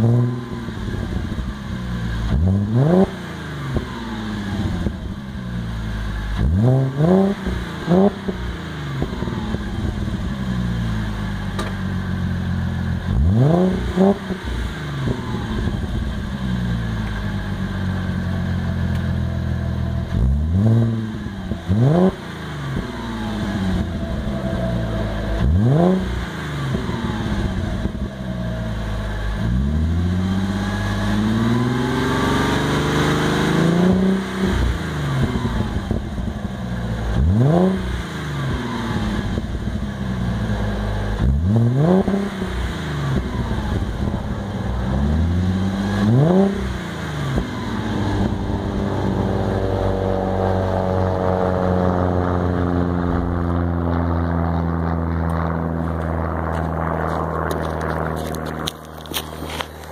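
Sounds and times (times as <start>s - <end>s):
car engine idling: 0.0s - 59.9s
car engine revving: 0.0s - 59.9s.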